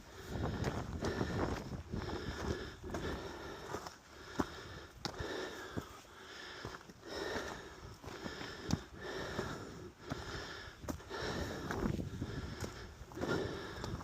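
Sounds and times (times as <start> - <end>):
person breathing hard: 0.0 - 14.0.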